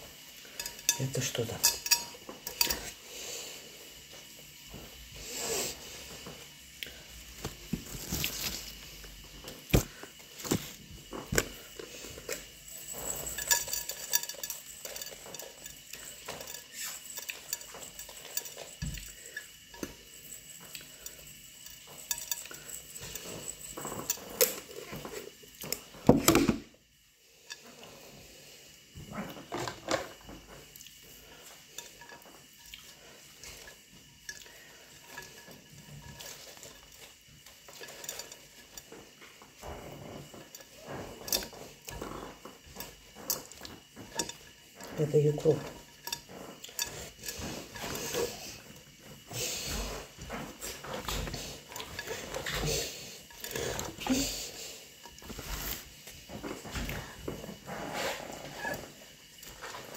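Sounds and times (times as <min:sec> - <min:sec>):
utensils and dishes clinking: 0:00.0 - 0:26.8, 0:27.4 - 0:59.9.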